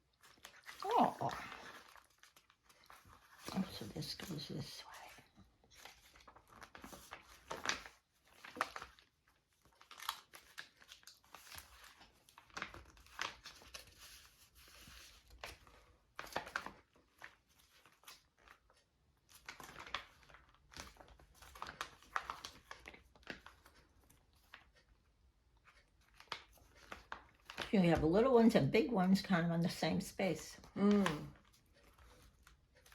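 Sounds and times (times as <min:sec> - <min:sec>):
paper rustling and crinkling: 0:00.0 - 0:28.1, 0:30.6 - 0:32.9.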